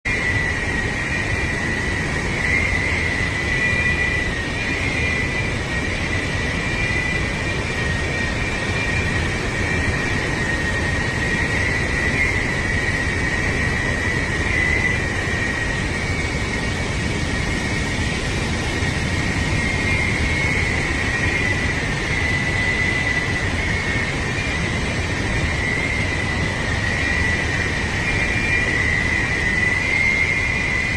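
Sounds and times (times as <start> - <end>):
high whine: 0.0 - 30.9.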